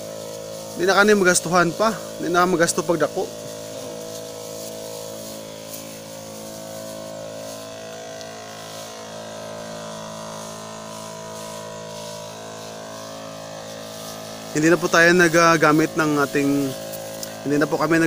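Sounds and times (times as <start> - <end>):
electric sprayer pump humming: 0.0 - 18.0.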